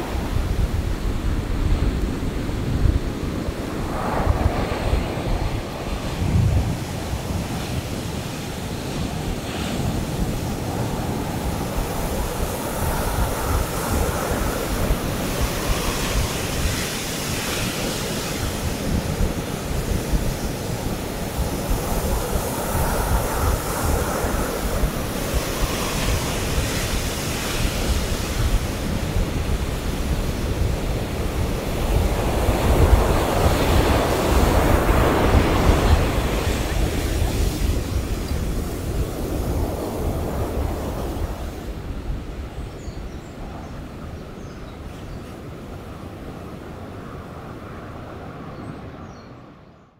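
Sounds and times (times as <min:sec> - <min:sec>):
ocean surf breaking: 0:00.0 - 0:42.5
wind rumble on microphone: 0:00.0 - 0:49.9.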